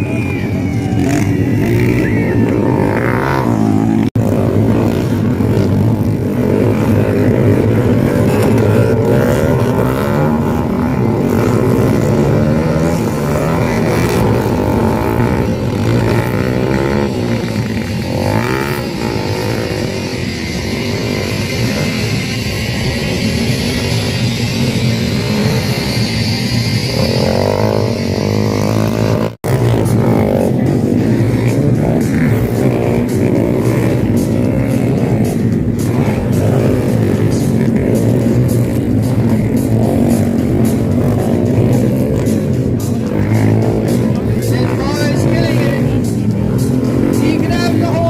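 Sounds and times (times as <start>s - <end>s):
dirt bike engines revving: 0.0s - 48.0s.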